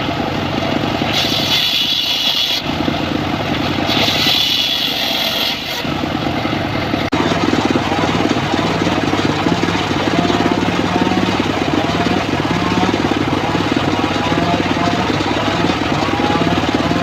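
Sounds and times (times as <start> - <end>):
engine pulsing beat: 0.0 - 17.0
saw blade whine: 0.0 - 17.0.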